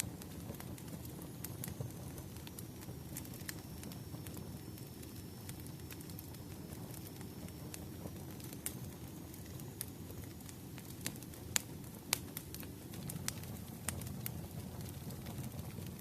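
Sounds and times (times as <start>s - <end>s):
fire rumbling: 0.0s - 16.0s
firewood crackling and popping: 0.0s - 16.0s.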